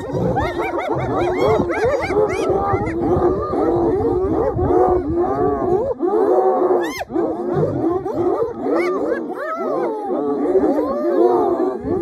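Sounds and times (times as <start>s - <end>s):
hyenas yelping and whooping: 0.0s - 12.0s.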